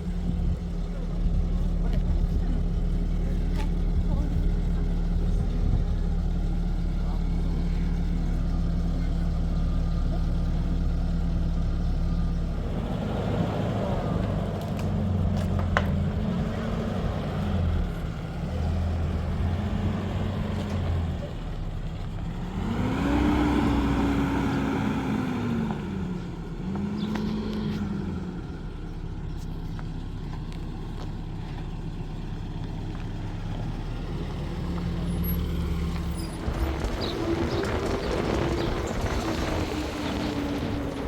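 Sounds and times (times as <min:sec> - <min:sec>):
vehicle engine revving: 0:00.0 - 0:41.0.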